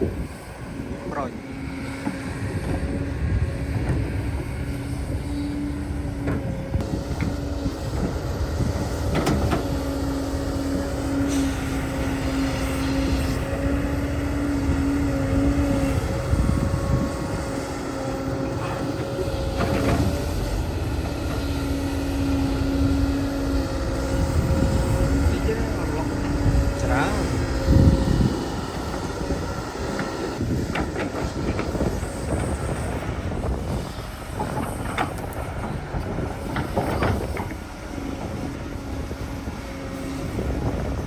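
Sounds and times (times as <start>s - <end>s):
earth-moving machine engine hum: 0.0s - 41.0s.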